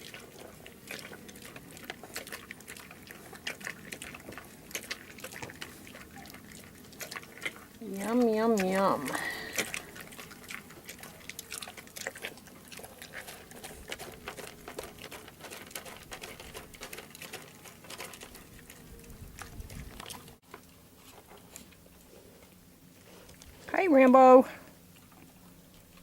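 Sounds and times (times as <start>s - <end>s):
animal munching feed: 0.0s - 26.0s.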